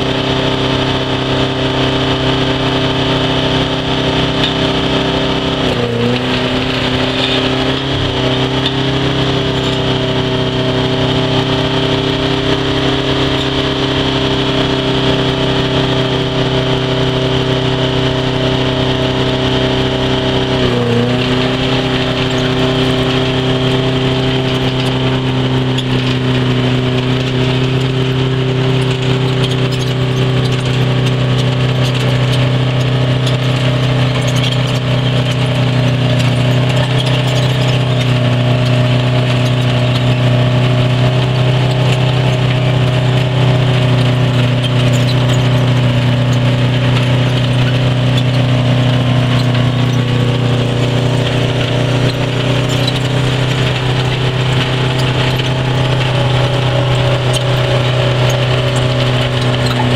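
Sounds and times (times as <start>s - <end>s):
trenching machine engine running: 0.0s - 59.9s.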